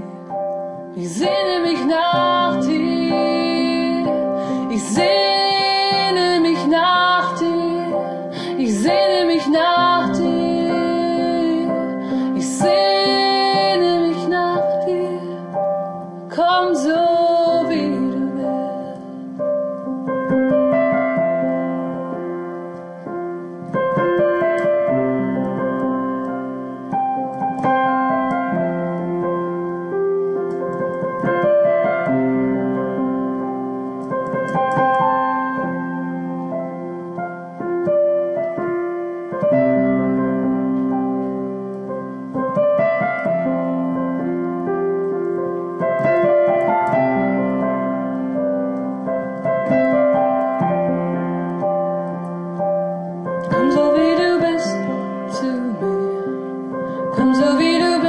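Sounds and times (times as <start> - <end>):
solo piano chords: 0.0 - 58.0.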